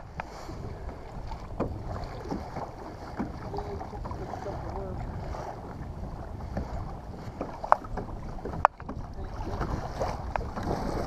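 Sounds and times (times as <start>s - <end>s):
water lapping against kayak: 0.0s - 11.0s
wind buffeting microphone: 0.0s - 11.0s.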